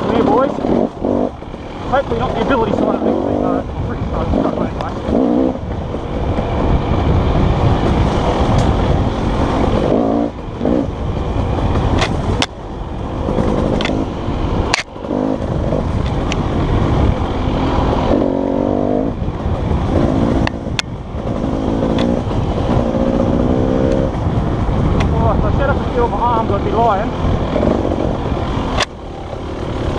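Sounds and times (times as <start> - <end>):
dirt bike engine revving: 0.0 - 29.9
wind rumble on microphone: 0.0 - 29.9.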